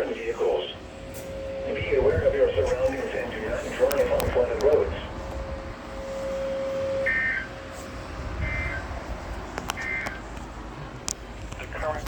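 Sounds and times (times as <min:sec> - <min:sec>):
steady low tone: 0:00.0 - 0:12.0.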